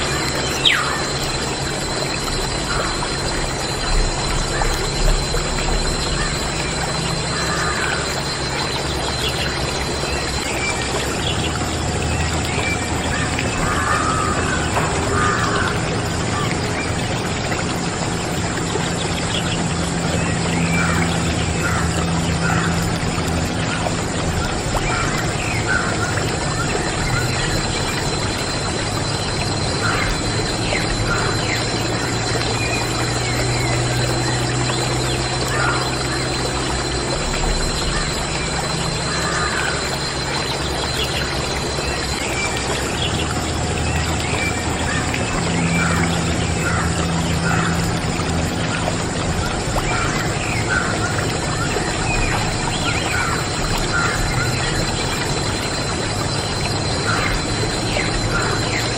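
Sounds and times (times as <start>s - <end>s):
water pouring from pump: 0.0s - 58.9s.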